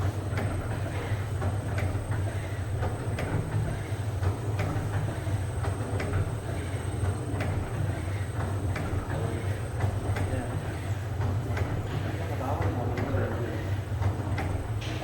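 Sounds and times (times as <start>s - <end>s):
machine clacks: 0.0s - 13.4s.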